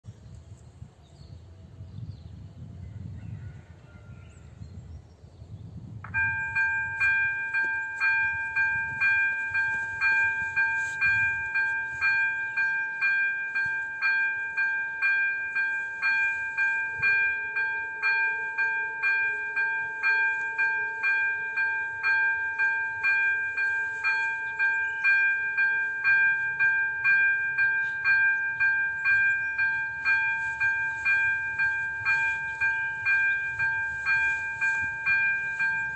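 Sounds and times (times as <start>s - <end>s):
electronic level crossing bell ringing: 6.1s - 35.9s.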